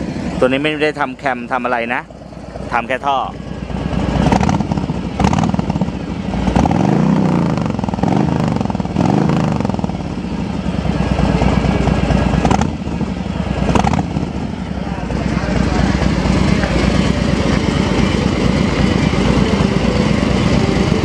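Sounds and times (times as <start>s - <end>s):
motorcycle engine idling: 0.0s - 21.0s
motorcycle engine revving: 2.0s - 21.0s.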